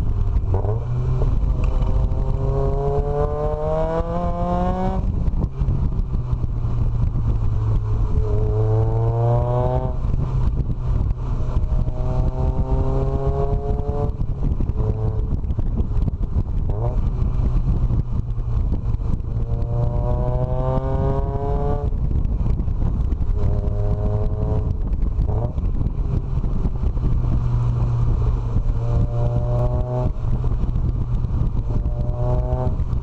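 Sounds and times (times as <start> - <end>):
road and wind noise: 0.0 - 33.0
vehicle engine accelerating: 0.0 - 33.0.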